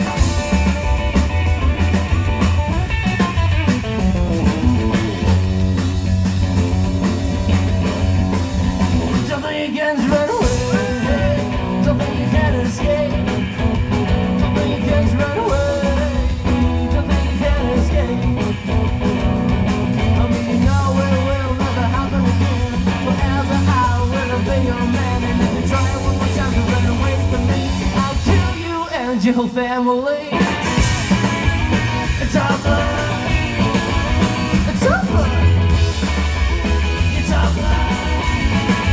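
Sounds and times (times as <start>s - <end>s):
upright double bass: 0.0s - 9.4s, 10.4s - 28.6s, 30.6s - 38.9s
drum kit: 0.0s - 29.6s, 30.3s - 38.9s
electric guitar: 0.0s - 38.9s.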